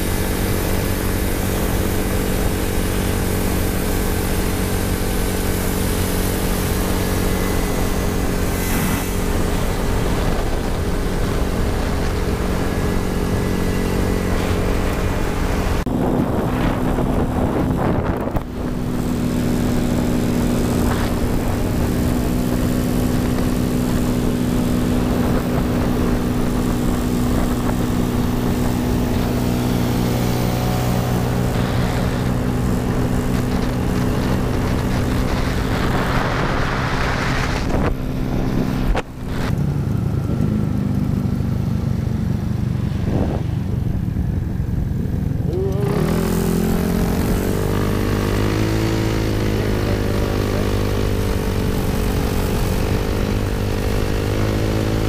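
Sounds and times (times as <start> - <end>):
scooter engine running: 0.0 - 55.0
wind rushing over microphone: 0.0 - 55.0.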